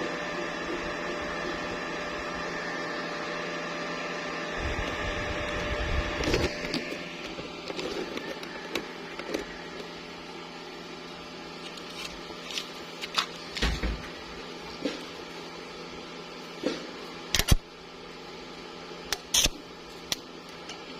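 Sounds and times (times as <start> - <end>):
electrical machine hum: 0.0 - 20.9.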